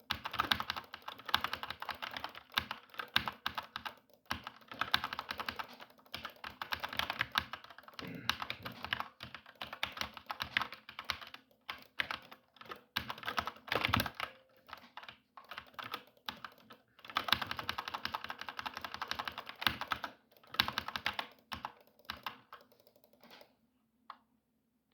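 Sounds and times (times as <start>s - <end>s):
fast typing on keyboard: 0.0s - 23.5s.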